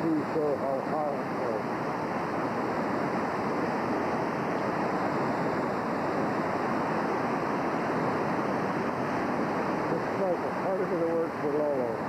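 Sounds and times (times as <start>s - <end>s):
river roaring in flood: 0.0s - 12.0s.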